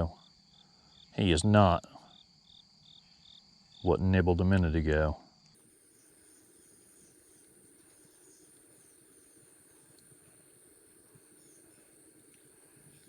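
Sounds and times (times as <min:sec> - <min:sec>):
faint insect drone: 0:00.0 - 0:13.0.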